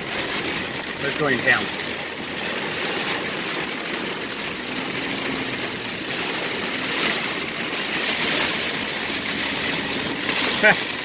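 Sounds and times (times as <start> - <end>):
car engine running: 0.0 - 11.0
heavy rain on car roof: 0.0 - 11.0.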